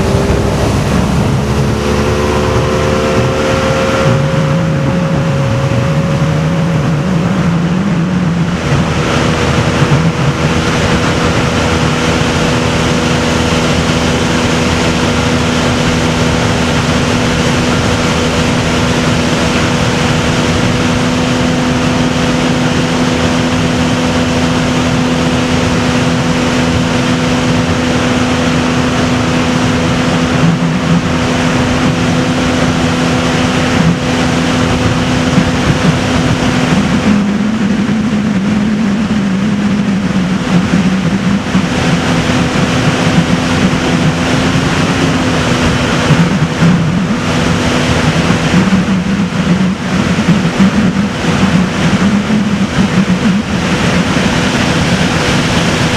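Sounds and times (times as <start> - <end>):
boat engine running: 0.0 - 55.9
lower wavering engine note: 0.0 - 55.9.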